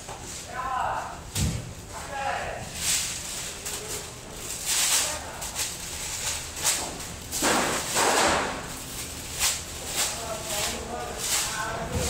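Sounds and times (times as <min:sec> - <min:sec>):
plastic sheet rustling: 0:00.2 - 0:12.0.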